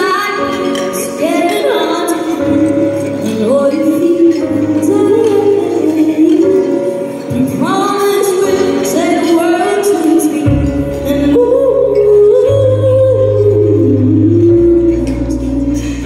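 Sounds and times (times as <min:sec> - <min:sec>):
woman singing into a microphone: 0:00.0 - 0:16.0.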